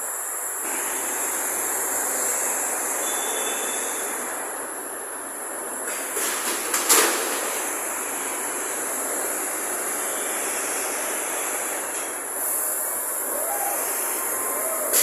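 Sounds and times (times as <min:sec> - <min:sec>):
welding and machinery hiss and rumble: 0:00.0 - 0:15.0.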